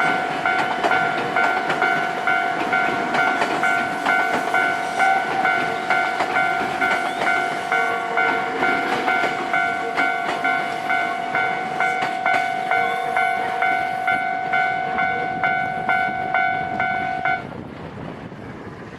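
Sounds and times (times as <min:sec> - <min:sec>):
level crossing bell clanging: 0:00.0 - 0:17.5
train running past: 0:00.0 - 0:18.9.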